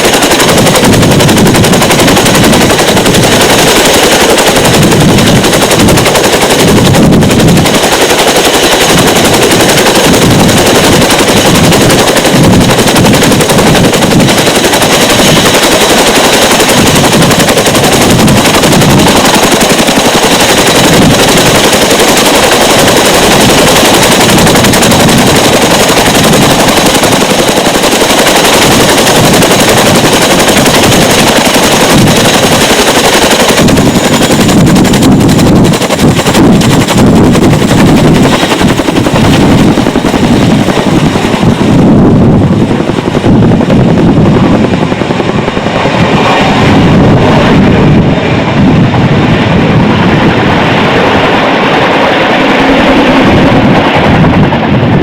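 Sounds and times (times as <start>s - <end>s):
helicopter rotors chopping: 0.0s - 55.0s.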